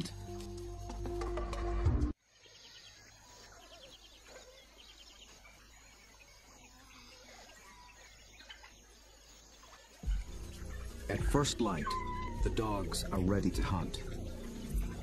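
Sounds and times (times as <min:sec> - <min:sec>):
distant bird calls: 0:02.2 - 0:15.0
insects chirping: 0:02.2 - 0:15.0.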